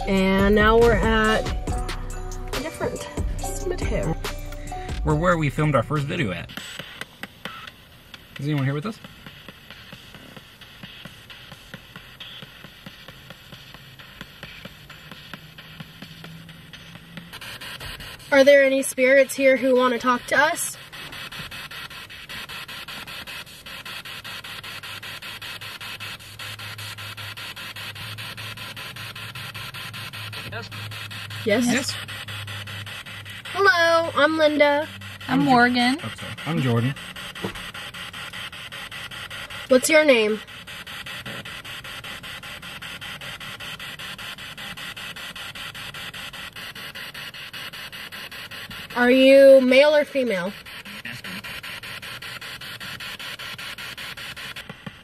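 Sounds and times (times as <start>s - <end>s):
chopped radio static hiss: 0.0s - 55.0s.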